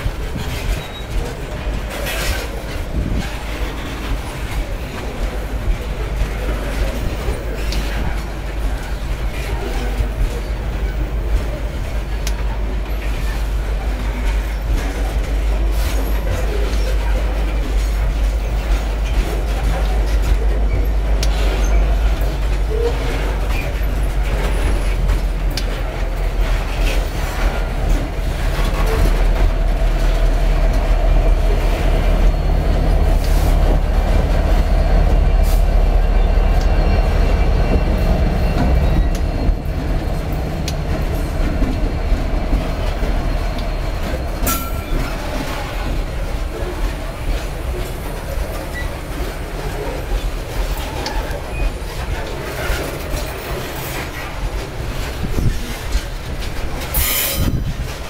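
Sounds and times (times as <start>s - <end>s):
diesel locomotive engine hum: 0.0s - 58.0s
train wheels rumbling on rails: 0.0s - 58.0s.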